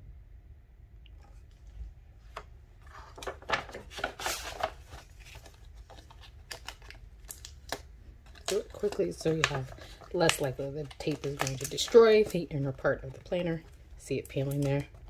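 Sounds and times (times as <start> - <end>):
paper rustling: 1.2 - 15.0.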